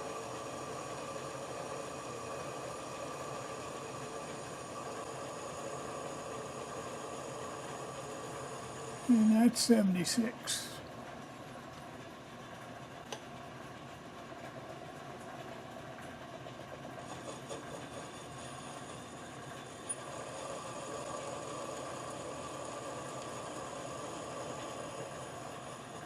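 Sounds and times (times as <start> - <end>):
metal lathe running: 0.0 - 10.8, 14.3 - 26.0.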